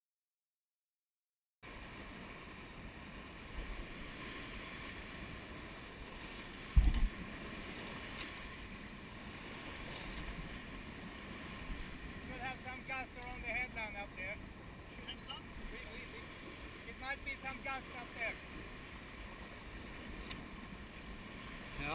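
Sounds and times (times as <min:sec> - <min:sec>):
wind: 0:01.6 - 0:21.9
water rushing along hull: 0:01.7 - 0:21.9.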